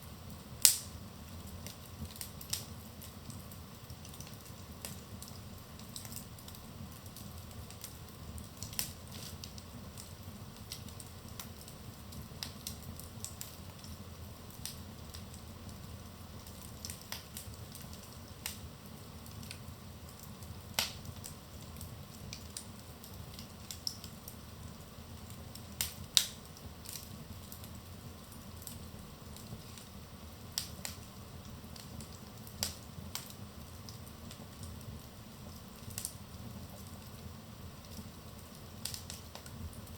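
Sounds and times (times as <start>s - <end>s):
low rumble of flames: 0.0s - 39.9s
fire pops and snaps: 0.2s - 39.9s.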